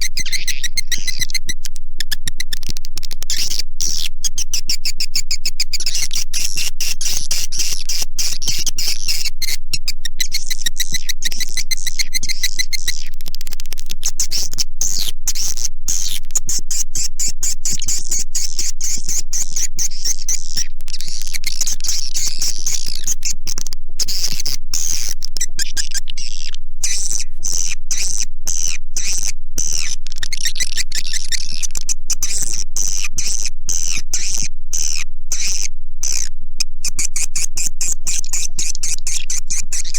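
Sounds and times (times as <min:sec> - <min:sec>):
swiftlet twittering chirps: 0:00.0 - 0:13.2, 0:14.0 - 0:36.3.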